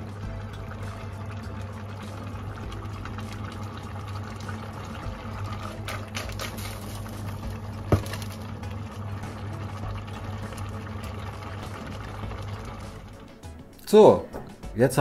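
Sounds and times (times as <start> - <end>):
faint sizzling of water: 0.0 - 14.0.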